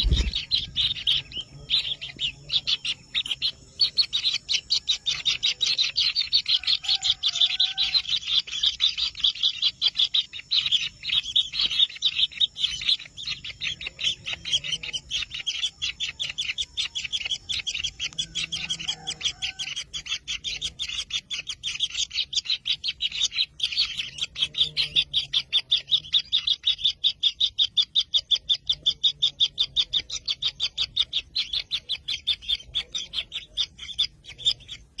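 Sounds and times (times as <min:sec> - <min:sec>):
nestlings begging chirps: 0:00.0 - 0:35.0.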